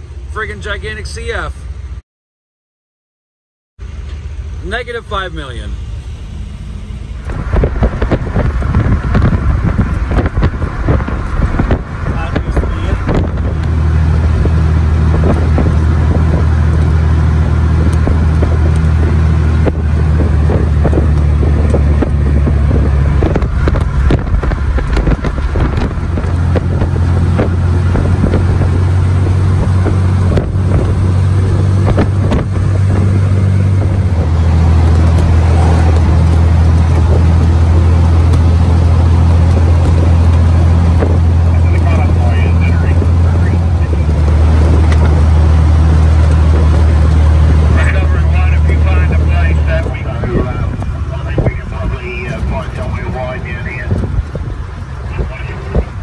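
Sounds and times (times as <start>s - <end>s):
road and wind noise: 0.0s - 2.0s, 3.8s - 56.0s
vehicle engine drone: 0.0s - 2.0s, 3.8s - 56.0s.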